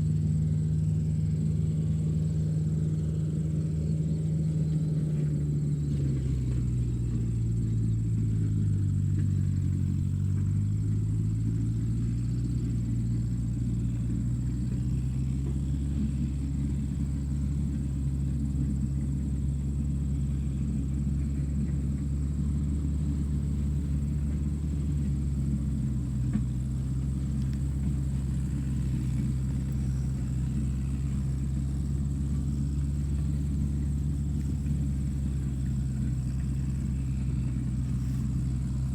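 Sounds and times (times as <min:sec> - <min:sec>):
tractor engine rumbling: 0:00.0 - 0:38.9.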